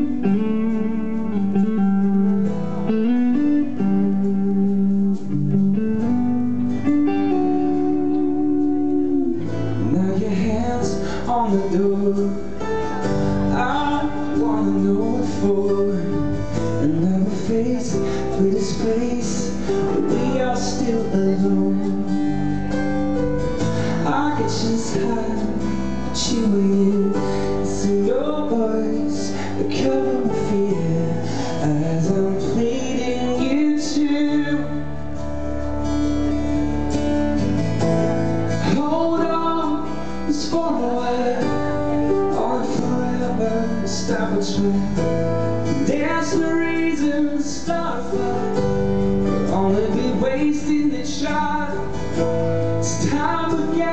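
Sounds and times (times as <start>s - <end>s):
pop-rock band playing: 0.0s - 53.9s
man singing: 7.2s - 35.3s, 38.3s - 53.9s.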